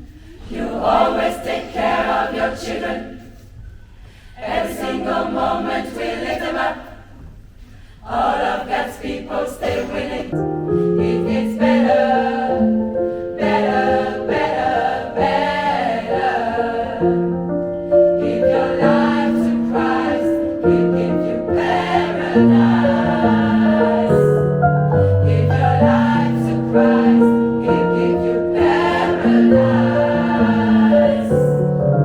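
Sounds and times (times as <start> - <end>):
women's choir singing gospel: 0.0 - 3.6, 4.4 - 7.4, 8.0 - 31.7.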